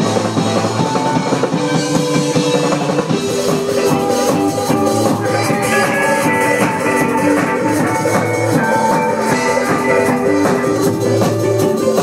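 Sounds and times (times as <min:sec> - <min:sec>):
drums with steady beat: 0:00.0 - 0:12.0
instruments holding notes: 0:00.0 - 0:12.0.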